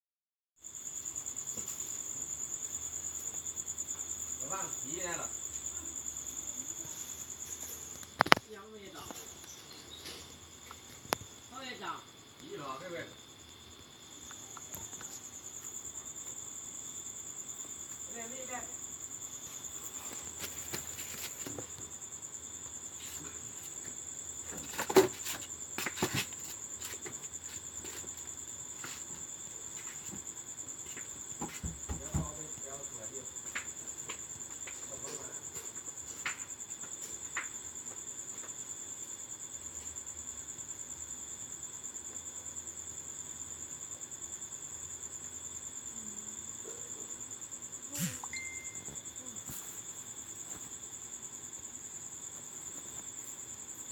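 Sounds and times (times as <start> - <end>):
insects chirring: 0.6 - 53.9.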